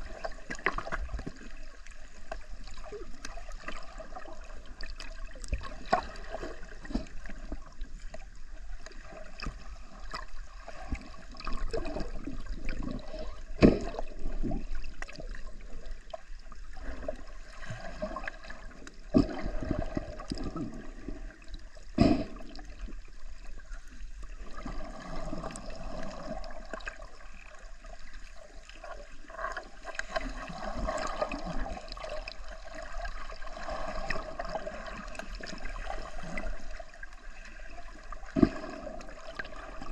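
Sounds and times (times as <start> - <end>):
water gurgling underwater: 0.0 - 39.9.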